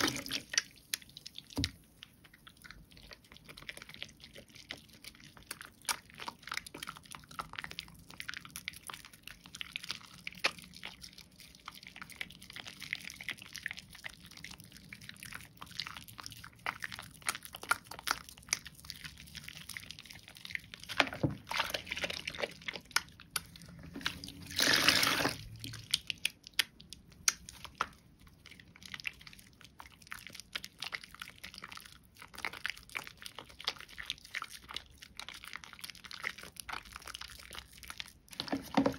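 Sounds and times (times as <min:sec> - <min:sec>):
wet soap lathering crackles: 0:00.0 - 0:38.9.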